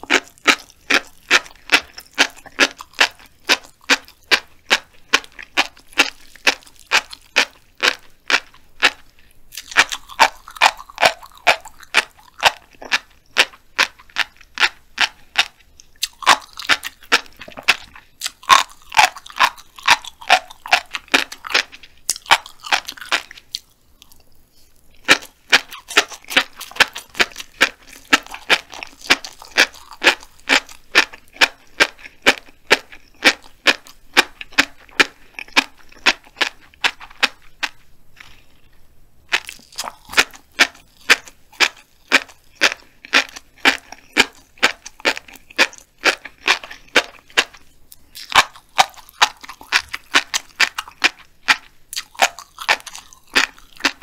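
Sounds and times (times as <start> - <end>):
chewing fish roe popping: 0.0 - 54.0.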